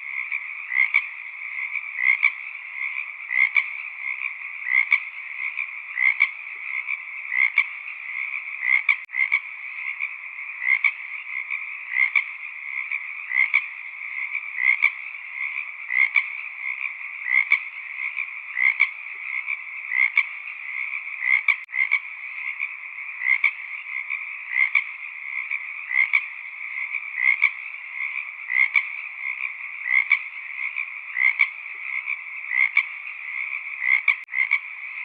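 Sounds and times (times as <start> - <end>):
frog chorus trilling: 0.0 - 35.0
louder frog call: 0.0 - 35.0.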